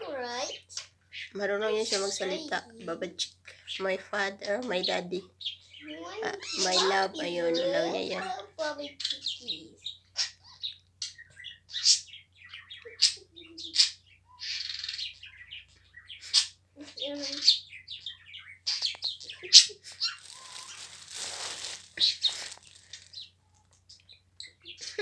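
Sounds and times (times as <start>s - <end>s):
pet bird chirping: 0.0s - 25.0s.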